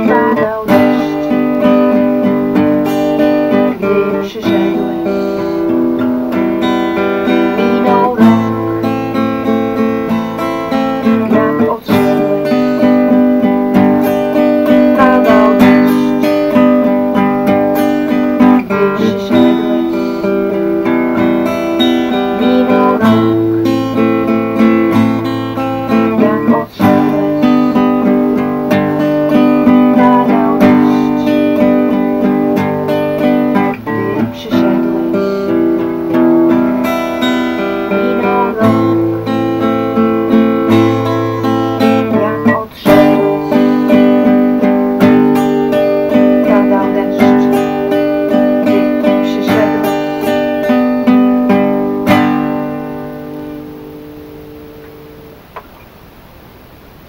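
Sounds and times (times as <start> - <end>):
acoustic guitar ballad: 0.0 - 57.0.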